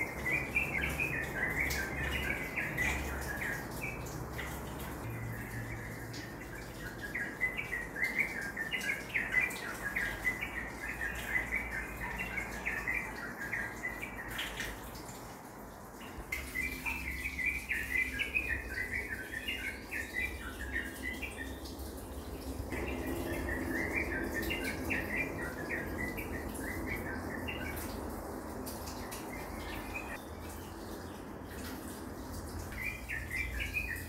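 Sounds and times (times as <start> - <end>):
bird chirping: 0.0 - 14.8, 16.0 - 21.9, 22.7 - 28.0, 32.7 - 34.0.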